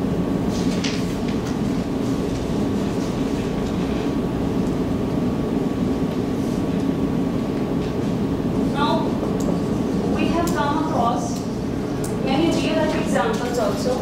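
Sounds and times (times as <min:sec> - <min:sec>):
low room rumble: 0:00.0 - 0:14.0.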